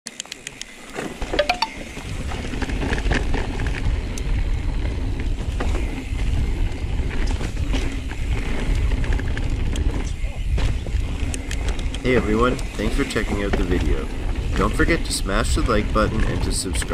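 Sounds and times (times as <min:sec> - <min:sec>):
bike clicks and rattles: 0:00.1 - 0:16.9
tyres on dirt: 0:00.1 - 0:16.9
wind rumble on microphone: 0:01.8 - 0:16.9.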